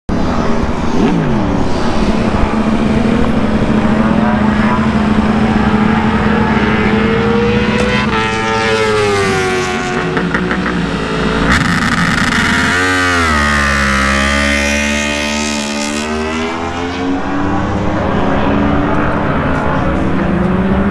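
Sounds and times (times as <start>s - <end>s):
motorcycle engine at high revs: 0.2s - 20.9s.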